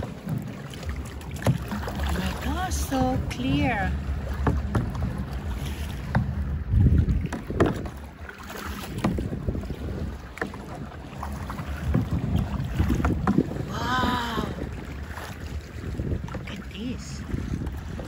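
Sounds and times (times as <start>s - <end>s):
water splashing and knocking: 0.0s - 18.0s
wind buffeting microphone: 0.0s - 18.0s.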